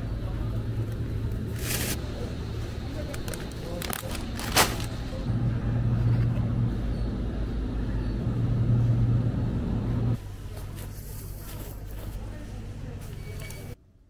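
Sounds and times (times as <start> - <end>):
refrigerated display case humming: 0.0 - 14.0.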